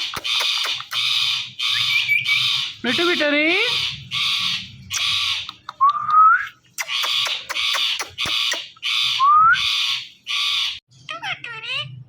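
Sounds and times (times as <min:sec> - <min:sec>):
parrot squawking: 0:00.0 - 0:05.8, 0:06.8 - 0:12.0.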